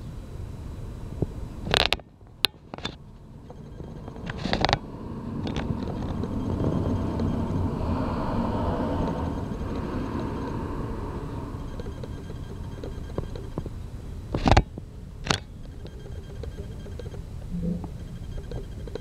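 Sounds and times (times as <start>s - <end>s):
vehicle low rumble: 0.0s - 16.0s, 16.6s - 19.0s.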